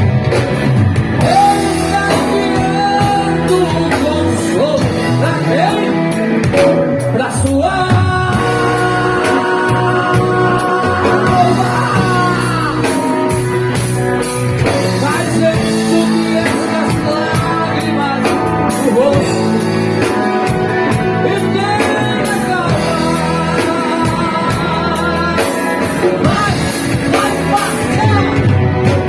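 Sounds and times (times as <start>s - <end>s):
electric guitar lead line: 0.0s - 29.0s
rock band playing: 0.0s - 29.0s.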